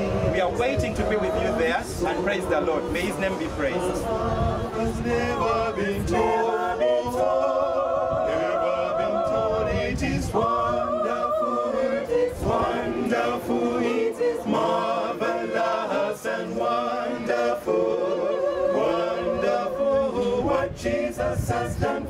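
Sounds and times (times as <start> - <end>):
mixed choir singing a hymn: 0.0 - 22.0.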